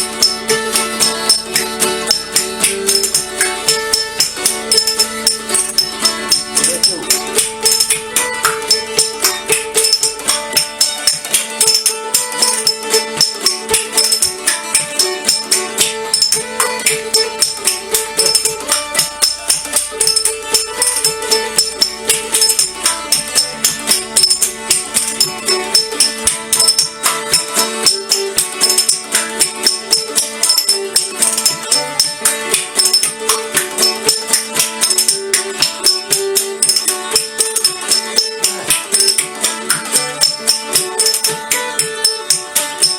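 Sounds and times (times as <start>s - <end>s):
music with fast percussive beat: 0.0s - 42.9s.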